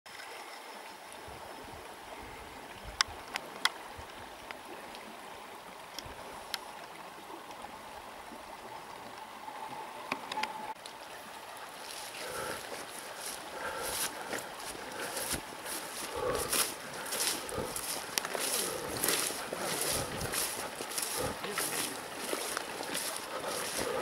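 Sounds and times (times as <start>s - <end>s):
river rushing: 0.2s - 24.0s.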